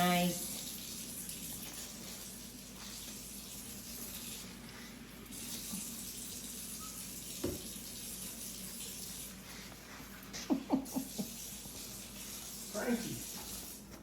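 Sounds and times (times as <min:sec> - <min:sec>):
water running from tap: 0:00.0 - 0:14.0.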